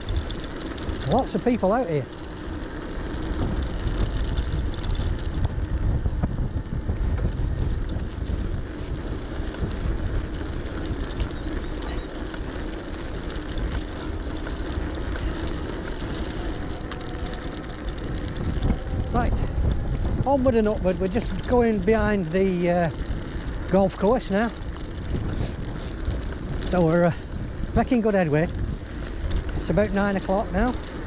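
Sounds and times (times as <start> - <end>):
tyres rolling: 0.0 - 31.0
wind rumbling on microphone: 0.0 - 31.0.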